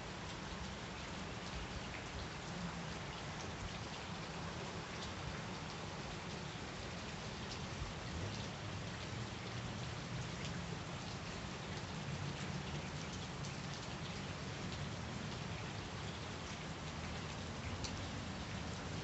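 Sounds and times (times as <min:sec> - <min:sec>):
rain falling on grass and concrete: 0:00.0 - 0:19.0.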